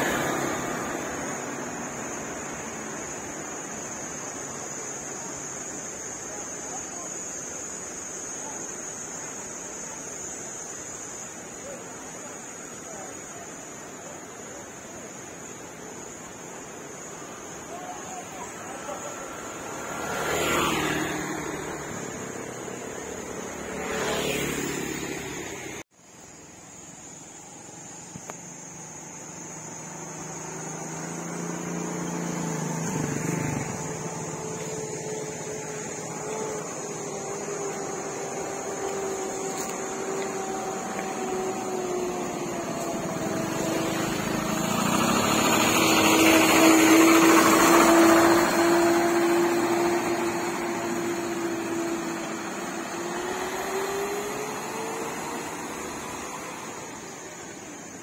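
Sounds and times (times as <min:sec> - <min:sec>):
motor scooter passing by: 0:00.0 - 0:08.6, 0:09.2 - 0:25.8, 0:28.4 - 0:58.0.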